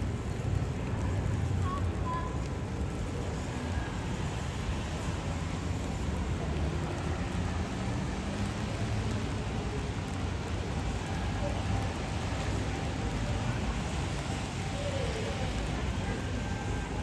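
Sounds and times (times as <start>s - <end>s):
rain falling on pavement: 0.0s - 17.0s.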